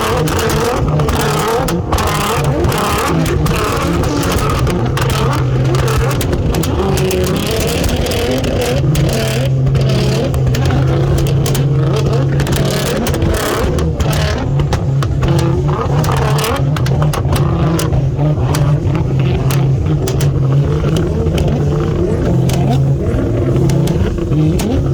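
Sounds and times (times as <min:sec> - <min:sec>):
car engine drone: 0:00.0 - 0:24.9.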